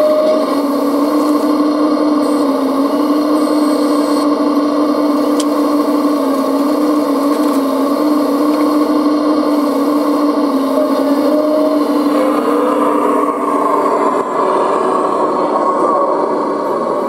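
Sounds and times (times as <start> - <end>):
hydraulic pump whine: 0.0 - 17.0.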